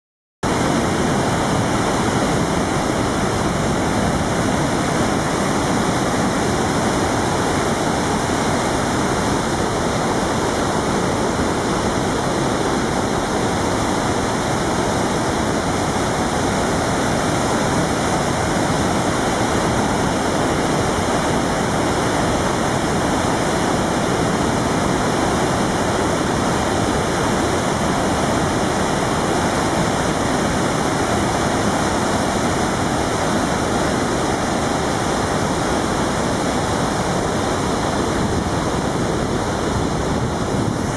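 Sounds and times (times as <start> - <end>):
rush of falling water: 0.4 - 40.9.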